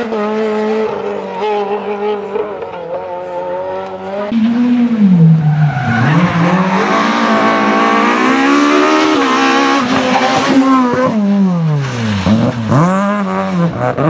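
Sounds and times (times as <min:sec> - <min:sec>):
distant rally car engine: 0:00.0 - 0:14.0
rally car slowing and accelerating: 0:00.0 - 0:14.0.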